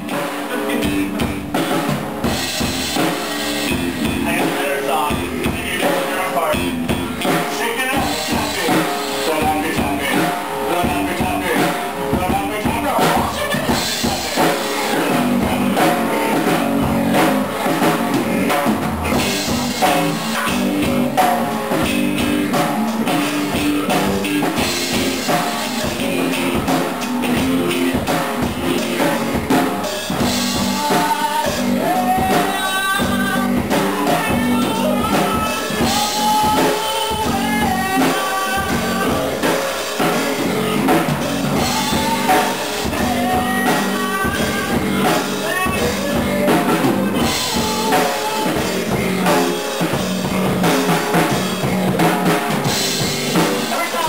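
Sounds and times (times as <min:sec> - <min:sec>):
drum kit beat: 0:00.0 - 0:54.0.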